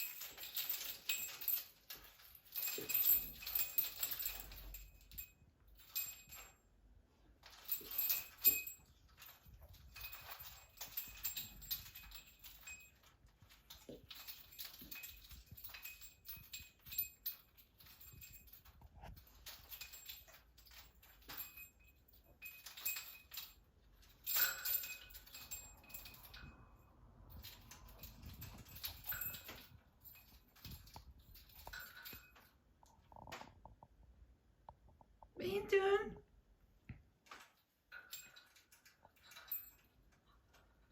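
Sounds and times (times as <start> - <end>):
bird toys clattering and rattling: 0.0 - 33.8, 37.3 - 40.9.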